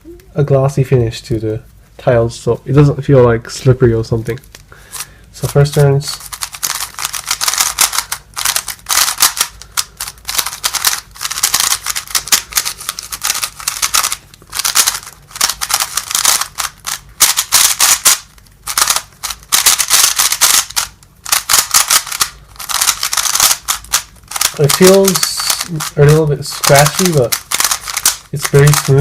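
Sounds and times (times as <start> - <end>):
speed cube layers clicking: 5.5 - 29.0.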